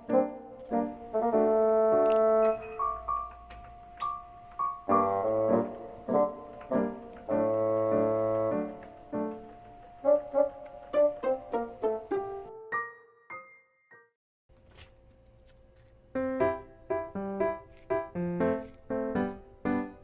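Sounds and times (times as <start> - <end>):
bouncy piano music: 0.0 - 14.2, 16.1 - 20.0.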